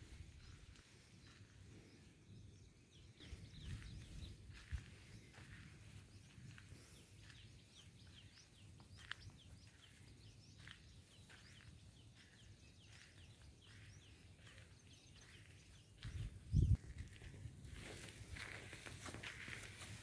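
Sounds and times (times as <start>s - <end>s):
faint bird chirps: 0.0s - 17.2s.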